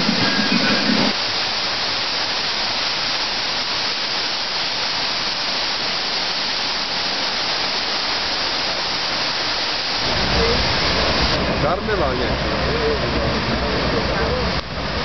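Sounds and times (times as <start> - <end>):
water splashing through waterwheel: 0.0 - 15.0.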